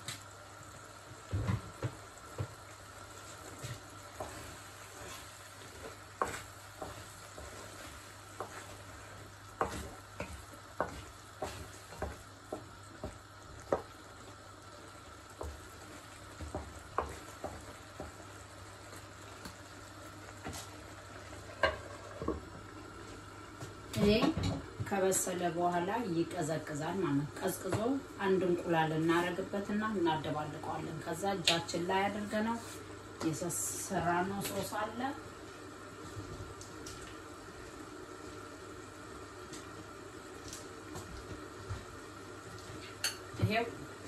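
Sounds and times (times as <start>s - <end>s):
faint sizzle of rice: 0.0s - 44.0s.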